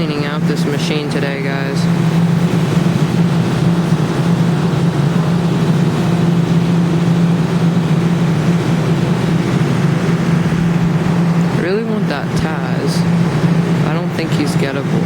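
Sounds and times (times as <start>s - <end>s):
claw machine motor hum: 0.0s - 15.0s.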